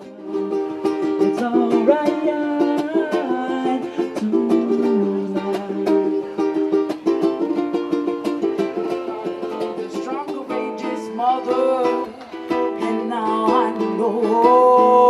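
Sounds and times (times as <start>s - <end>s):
strummed ukulele chords: 0.0s - 15.0s.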